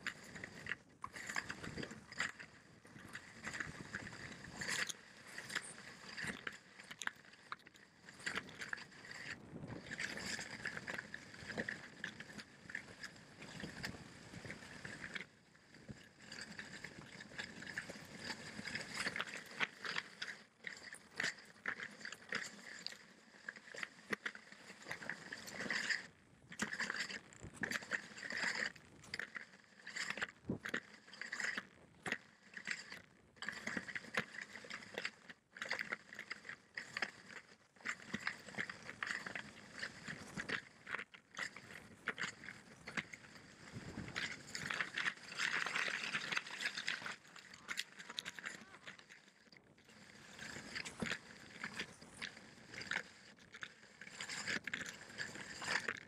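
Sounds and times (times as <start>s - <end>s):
skis scraping over snow: 0.0s - 2.4s, 3.0s - 23.2s, 23.8s - 31.6s, 35.8s - 40.8s, 41.4s - 55.9s
small clicks and knocks: 0.0s - 56.0s.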